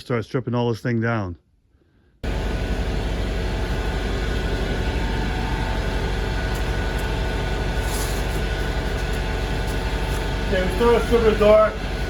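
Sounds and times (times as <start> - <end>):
machine droning hum: 2.2 - 12.0.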